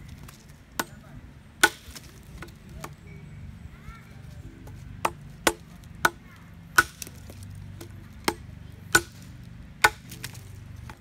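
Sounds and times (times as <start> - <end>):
machete chopping wood: 0.2 - 3.0, 4.6 - 11.0.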